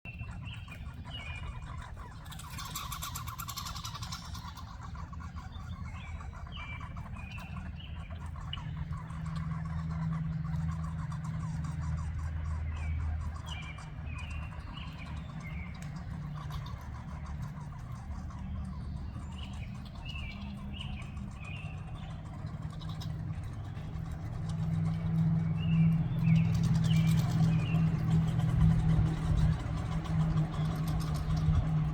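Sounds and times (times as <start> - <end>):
songbird chirps: 0.1 - 31.9
steady low hum: 0.1 - 31.9.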